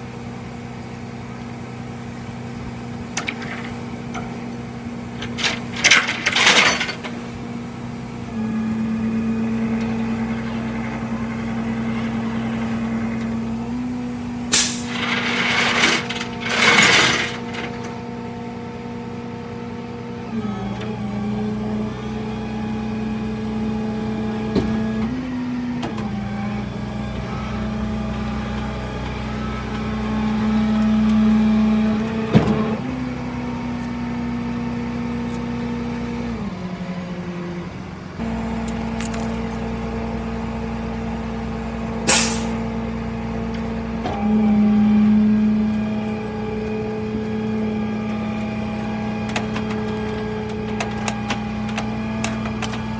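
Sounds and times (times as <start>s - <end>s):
vehicle engine droning: 0.0s - 52.9s.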